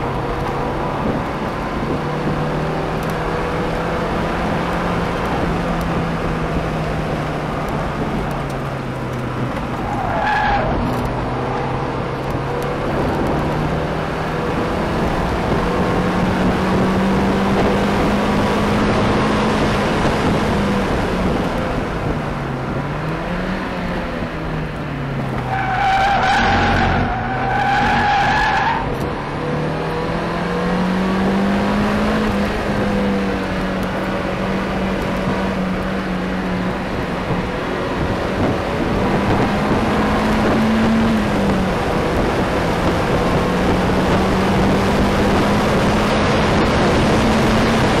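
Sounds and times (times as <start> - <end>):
car engine pulling hard: 0.0 - 48.0.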